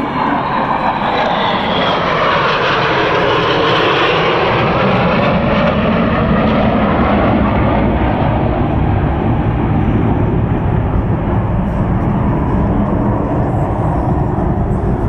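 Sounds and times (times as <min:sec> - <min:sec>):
fighter jets flying past: 0:00.0 - 0:15.0.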